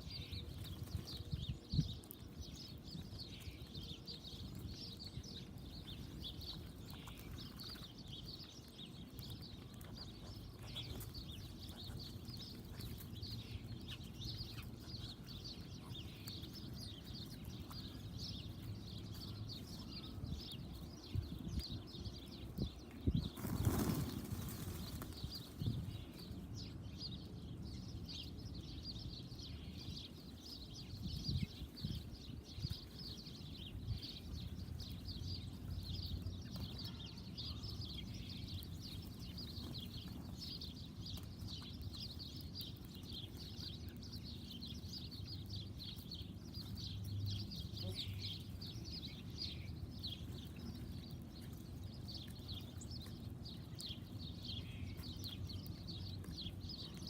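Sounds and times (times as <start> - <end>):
birds twittering: 0.0 - 57.0.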